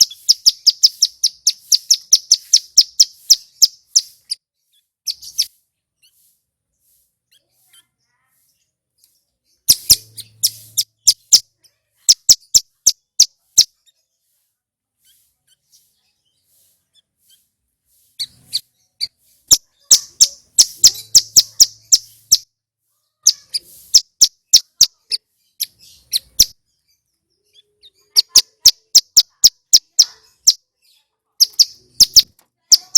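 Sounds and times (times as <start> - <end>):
bird chirping: 0.0 - 32.9.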